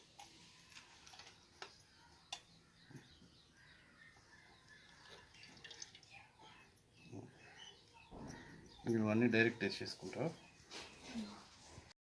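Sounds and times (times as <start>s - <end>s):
faint bird chirps: 0.4s - 11.6s.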